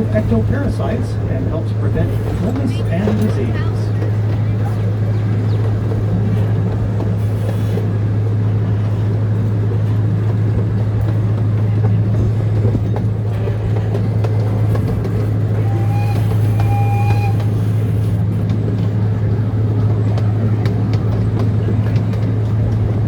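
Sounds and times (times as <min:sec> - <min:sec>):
train engine hum: 0:00.0 - 0:23.0
train rolling rumble: 0:00.0 - 0:23.0.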